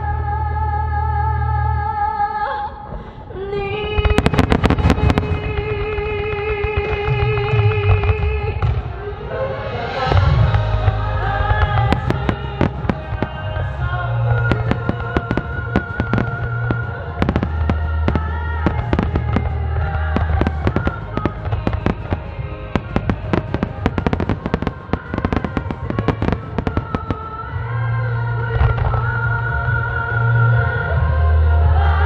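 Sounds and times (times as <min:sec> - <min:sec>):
fireworks bangs and crackling: 0:04.0 - 0:29.8
music with deep bass: 0:04.1 - 0:32.0.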